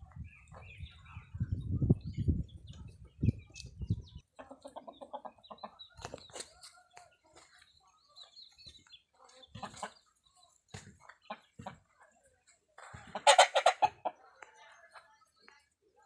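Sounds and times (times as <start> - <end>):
chicken clucking: 0.0 - 15.6.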